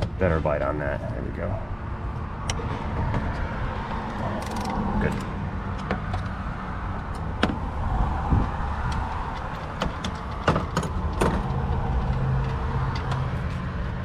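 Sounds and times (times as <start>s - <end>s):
steady low rumble: 0.2s - 12.8s.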